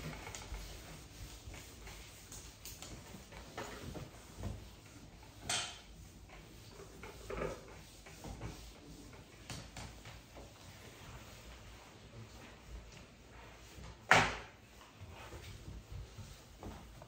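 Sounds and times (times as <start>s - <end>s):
eraser wiping whiteboard: 0.0s - 17.0s.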